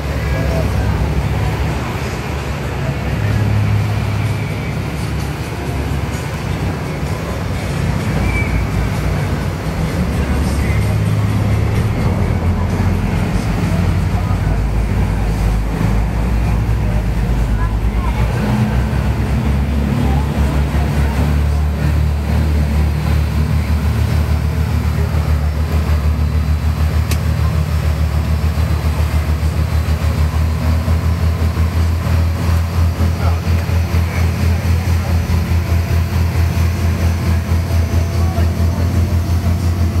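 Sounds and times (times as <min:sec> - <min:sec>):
boat engine throbbing: 0:00.0 - 0:40.0.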